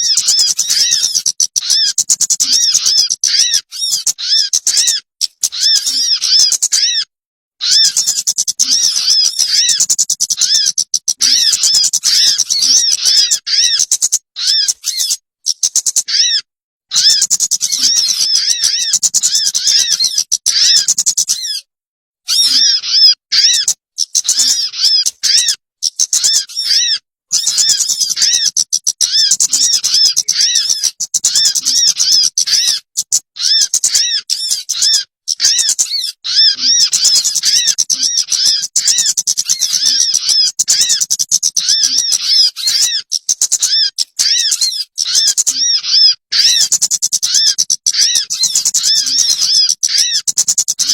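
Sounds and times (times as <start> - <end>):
dry chattering rattle: 0.0 - 7.0, 7.6 - 16.1, 16.9 - 21.6, 22.3 - 50.9
rapid arching bird chirps: 0.0 - 50.9.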